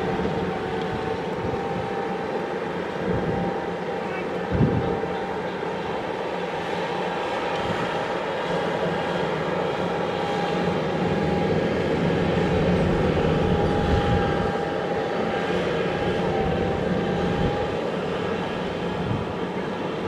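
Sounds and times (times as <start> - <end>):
constant whine: 0.0 - 20.0.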